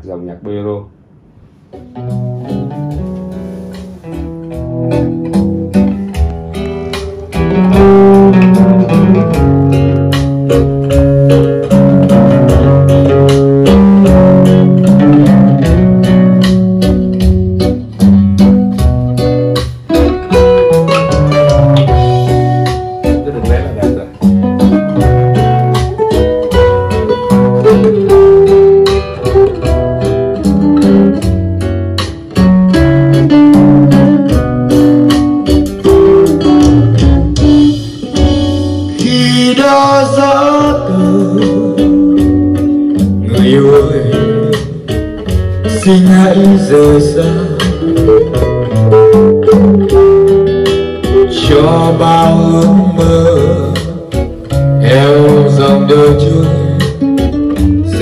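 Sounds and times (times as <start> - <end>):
bolero song on hi-fi: 0.0 - 58.0.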